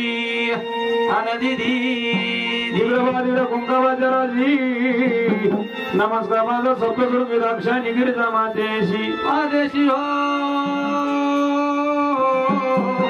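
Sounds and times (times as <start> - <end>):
held melody with vibrato: 0.0 - 13.0.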